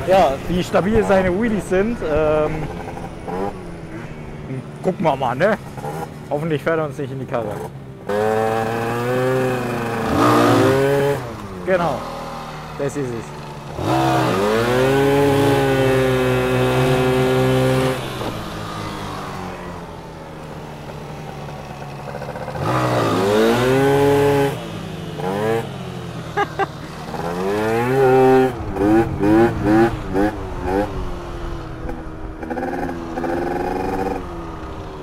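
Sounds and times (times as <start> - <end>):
small motorbike engine revving: 0.0 - 6.3, 7.4 - 35.0.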